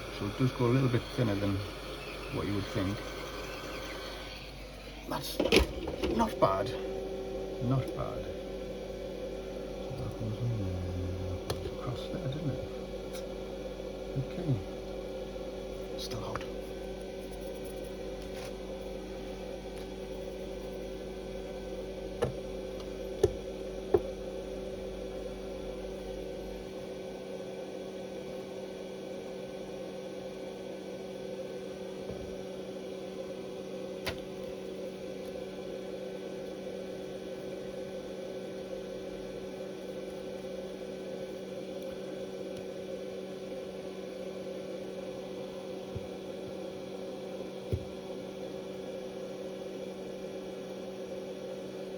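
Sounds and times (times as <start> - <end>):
electrical hum: 0.0 - 51.9.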